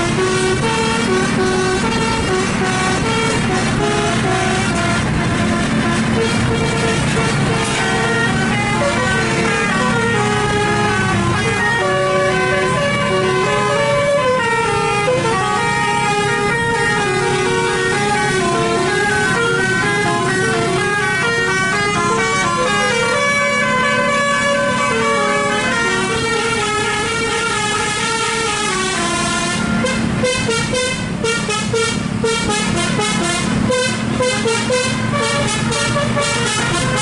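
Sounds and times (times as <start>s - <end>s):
low engine hum: 0.0s - 37.0s
musical bus air horn: 0.0s - 37.0s.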